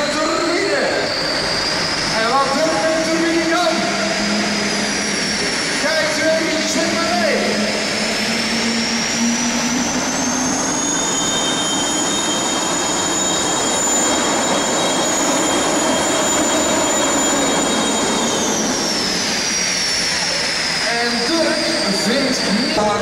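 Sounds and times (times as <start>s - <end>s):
high engine whine: 0.0s - 23.0s
tractor engine at full power: 0.0s - 23.0s.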